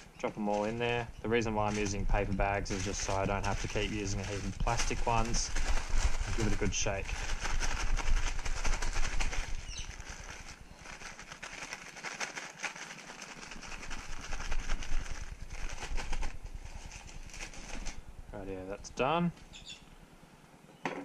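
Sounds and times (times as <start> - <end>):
paper bag shaken with crackling rustle: 0.0 - 18.1.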